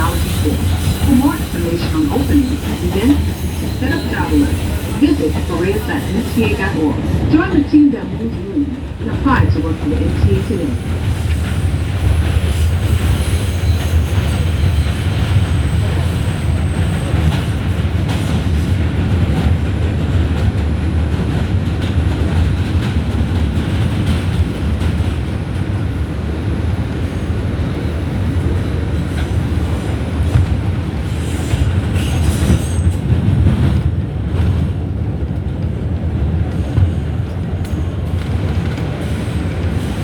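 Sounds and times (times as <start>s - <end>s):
subway train wheels rumbling: 0.0s - 40.0s.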